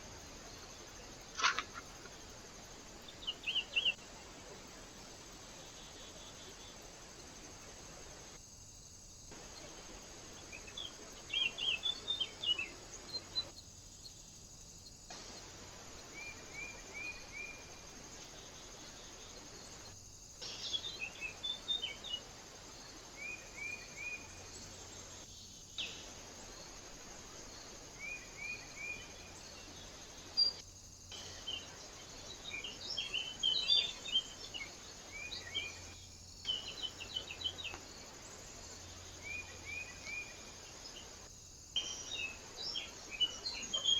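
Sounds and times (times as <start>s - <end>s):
microphone hiss: 0.0s - 43.9s
small birds chirping: 0.0s - 43.9s.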